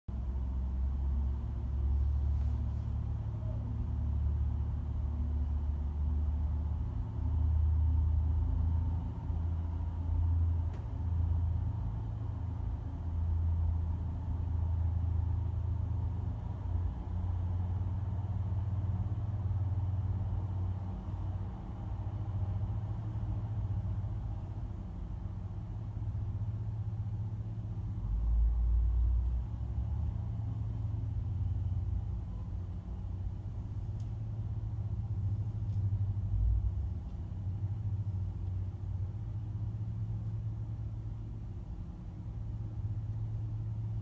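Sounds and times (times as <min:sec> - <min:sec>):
diesel train rumble: 0:00.1 - 0:44.0.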